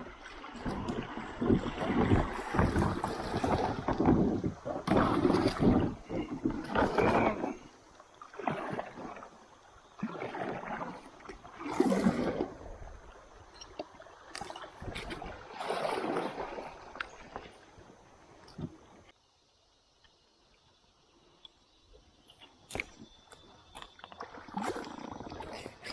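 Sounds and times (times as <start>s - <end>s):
water splashing and gurgling: 0.0s - 19.1s, 22.3s - 25.9s.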